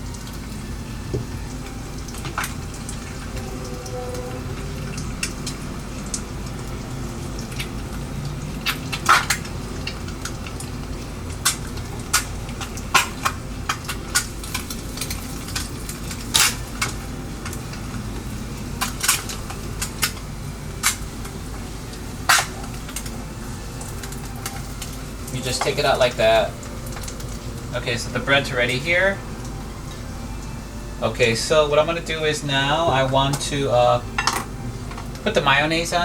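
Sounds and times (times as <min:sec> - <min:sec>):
eggs sizzling: 0:00.0 - 0:36.0.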